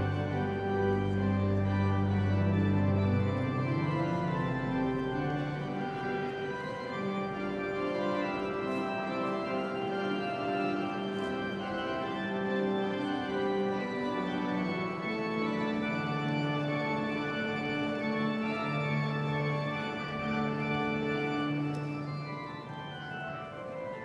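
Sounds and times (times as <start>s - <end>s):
organ playing chords: 0.0s - 24.0s.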